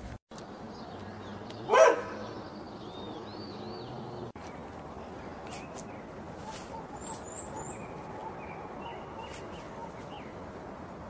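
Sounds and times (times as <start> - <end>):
small birds chirping: 0.3 - 10.6.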